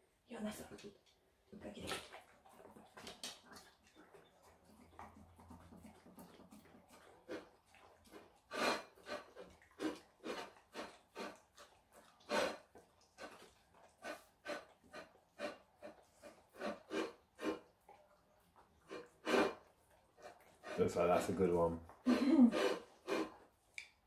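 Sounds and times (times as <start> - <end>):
puppy licking plates: 0.8 - 24.0
puppy chewing: 1.8 - 24.0.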